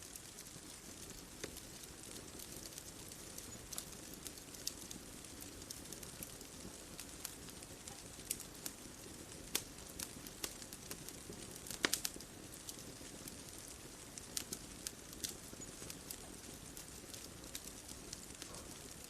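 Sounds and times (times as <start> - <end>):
soft steady hiss: 0.0 - 19.0
wood fire crackling: 0.0 - 19.0.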